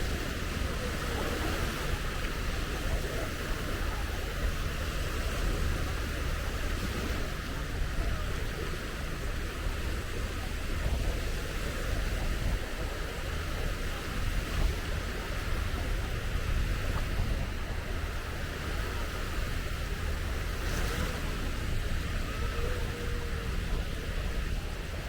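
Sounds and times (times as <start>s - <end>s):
surf washing onto beach: 0.0s - 25.0s
wind rumbling on microphone: 0.0s - 25.0s.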